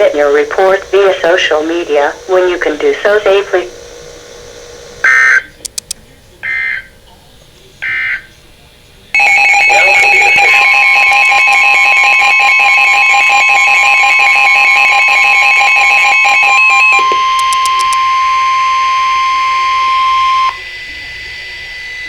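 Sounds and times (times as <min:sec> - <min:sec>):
fast warbling electronic alarm: 0:00.0 - 0:05.5, 0:06.4 - 0:07.0, 0:07.8 - 0:08.3, 0:09.2 - 0:22.0
radio hiss: 0:00.0 - 0:22.0.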